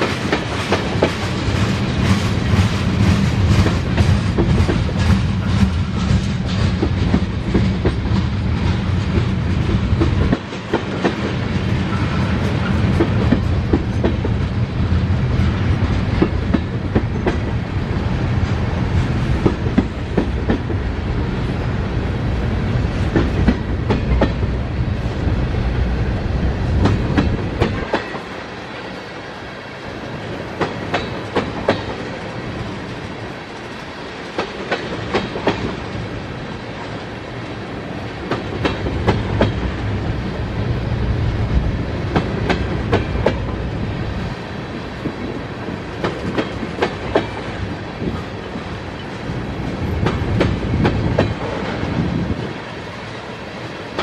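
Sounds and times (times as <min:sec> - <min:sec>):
wheels clacking over rail joints: 0:00.0 - 0:21.2, 0:22.8 - 0:24.6, 0:26.6 - 0:28.5, 0:30.4 - 0:36.1, 0:38.1 - 0:40.0, 0:41.1 - 0:52.5
freight train rolling past: 0:00.0 - 0:54.0.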